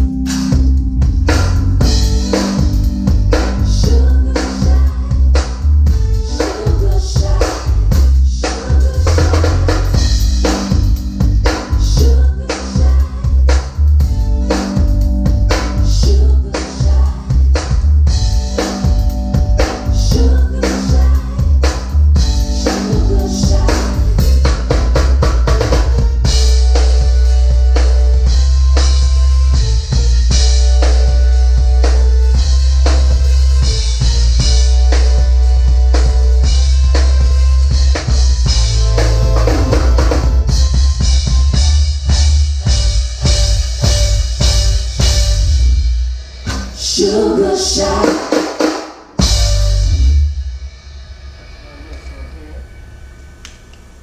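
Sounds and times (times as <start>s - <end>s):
heavy bass line: 0.0s - 48.4s, 49.2s - 53.3s
drum kit beat: 0.0s - 50.9s
live band playing: 0.0s - 52.1s.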